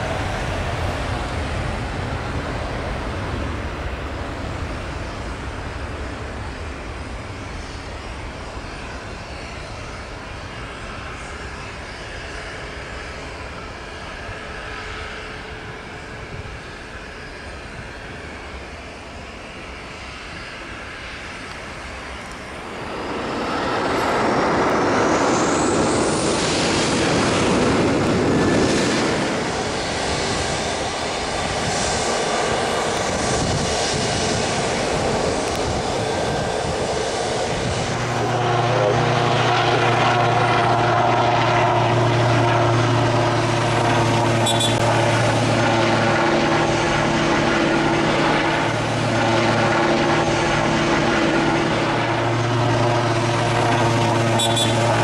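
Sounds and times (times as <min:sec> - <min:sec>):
helicopter low drone: 0:00.0 - 0:55.0
jet engines with rising whine: 0:00.0 - 0:55.0.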